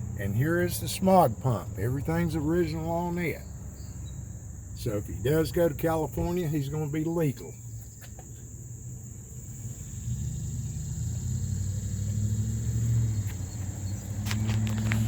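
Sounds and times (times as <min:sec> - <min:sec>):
insects chirring: 0:00.0 - 0:15.0
vehicle engine rumbling: 0:00.0 - 0:15.0.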